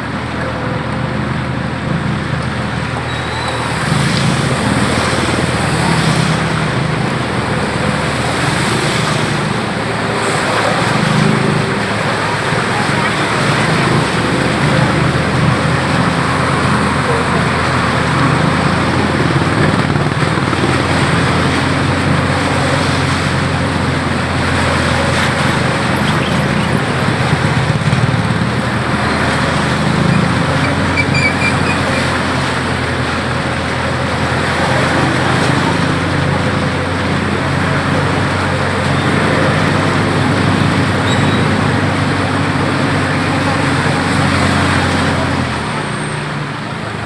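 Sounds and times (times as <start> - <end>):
road noise: 0.0 - 47.0
vehicle engines humming: 0.0 - 47.0.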